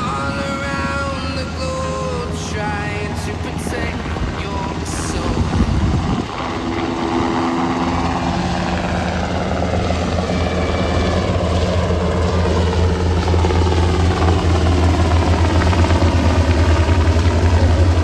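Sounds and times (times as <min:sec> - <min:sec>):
helicopter engine hum and whine: 0:00.0 - 0:18.0.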